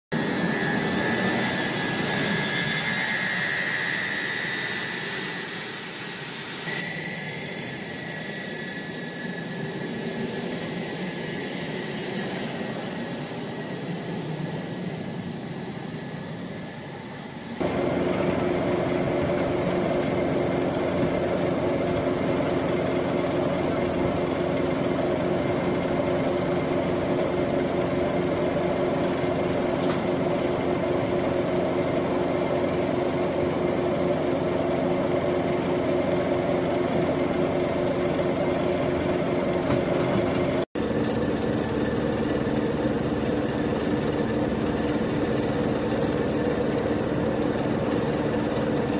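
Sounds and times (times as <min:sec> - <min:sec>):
jet engines whining: 0:00.1 - 0:48.9.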